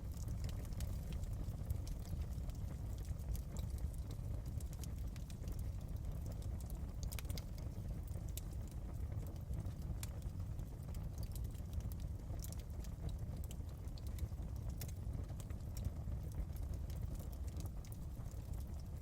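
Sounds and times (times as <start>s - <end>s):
fire crackling and popping: 0.0s - 19.0s
fire rumbling in fireplace: 0.0s - 19.0s.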